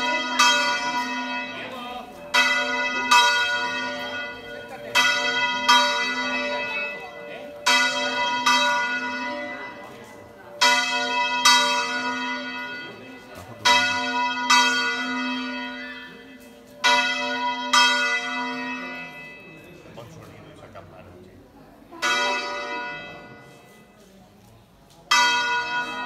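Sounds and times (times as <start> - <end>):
church bell ringing: 0.0 - 19.7, 22.0 - 23.9, 25.1 - 26.0.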